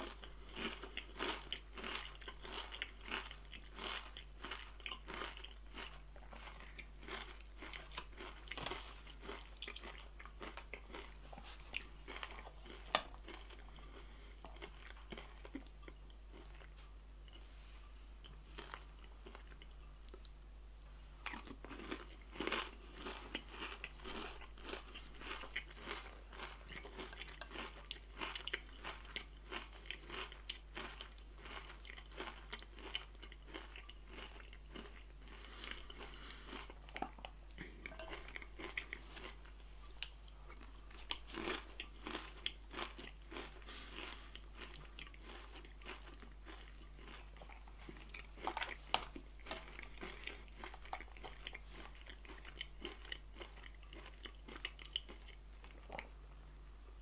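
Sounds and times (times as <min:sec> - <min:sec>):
person chewing crunchy food: 0:00.0 - 0:17.6, 0:18.2 - 0:20.4, 0:21.2 - 0:56.2.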